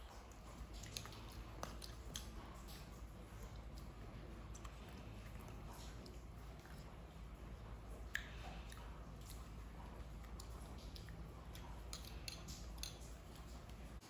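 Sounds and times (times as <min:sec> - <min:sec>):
monkey eating mouth sounds: 0:00.0 - 0:14.0.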